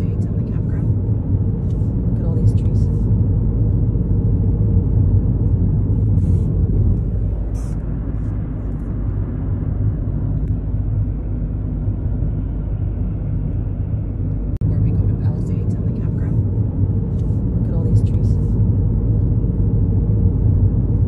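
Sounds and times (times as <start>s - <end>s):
car interior road rumble: 0.0s - 21.0s.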